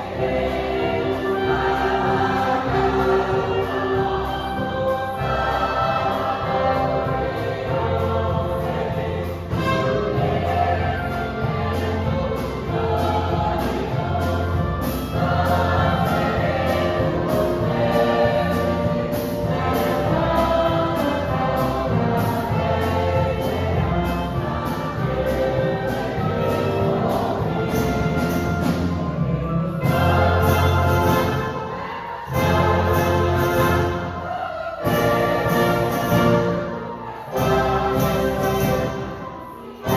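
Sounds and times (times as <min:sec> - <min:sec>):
choir singing a gospel hymn: 0:00.0 - 0:39.9
orchestra accompanying: 0:00.0 - 0:39.9.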